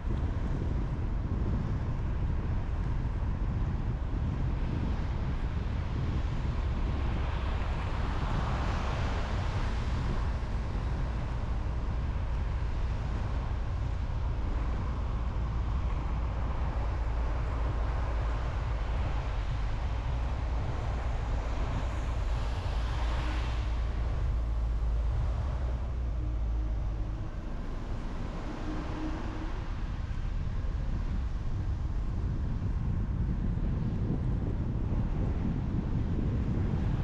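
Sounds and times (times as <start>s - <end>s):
road and tyre rumble: 0.0s - 37.0s.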